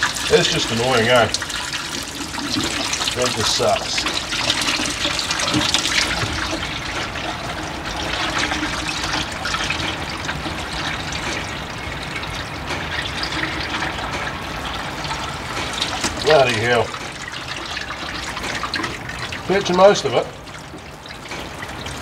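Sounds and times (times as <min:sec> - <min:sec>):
oil pouring into a pan: 0:00.0 - 0:22.0.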